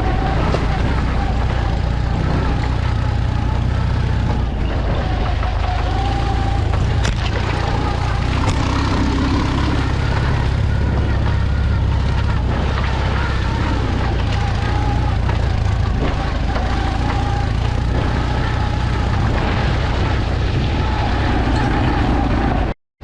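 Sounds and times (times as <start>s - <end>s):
vehicle engine drone: 0.0s - 22.8s.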